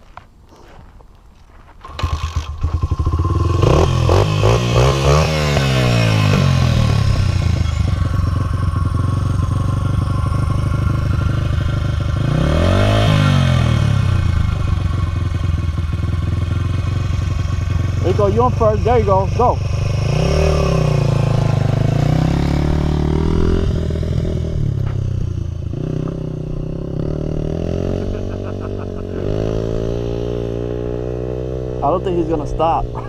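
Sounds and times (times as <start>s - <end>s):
dirt bike engine revving: 1.8s - 33.0s.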